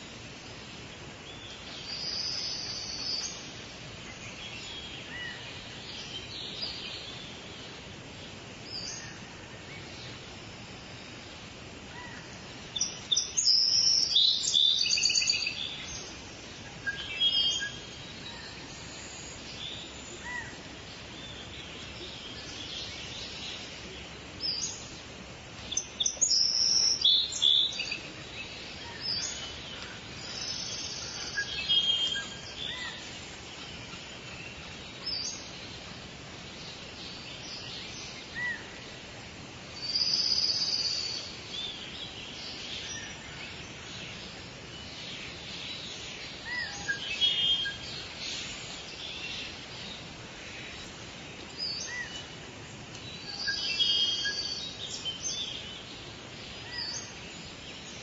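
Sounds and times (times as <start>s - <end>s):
faint background hiss: 0.0s - 58.0s
songbirds chirping and trilling: 0.0s - 58.0s.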